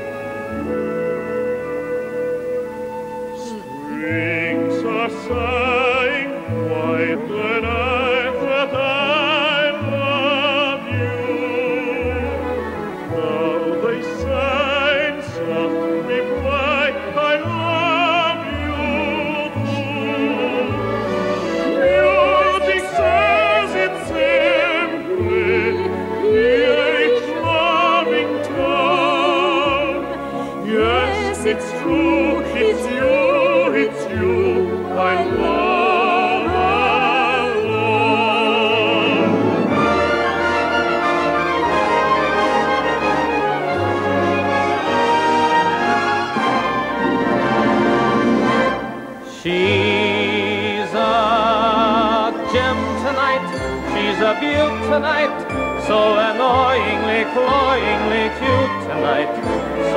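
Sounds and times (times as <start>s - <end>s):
operatic singing: 0.0s - 59.9s
orchestral accompaniment: 0.0s - 59.9s.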